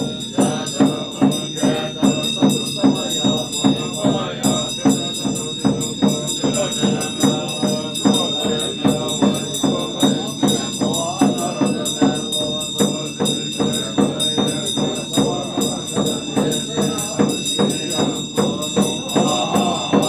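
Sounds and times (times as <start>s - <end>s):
bells ringing: 0.0s - 20.0s
monks chanting: 0.0s - 20.0s
steady drum beat: 0.0s - 20.0s.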